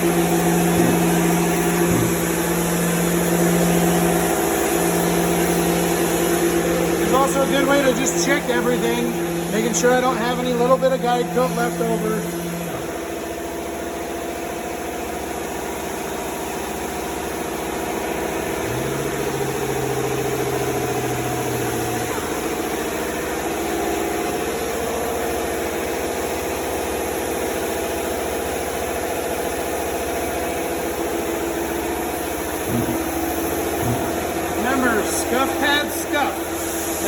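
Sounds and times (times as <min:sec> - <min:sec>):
lower machine tone: 0:00.0 - 0:26.5, 0:31.0 - 0:37.0
shop machinery humming: 0:00.0 - 0:37.0.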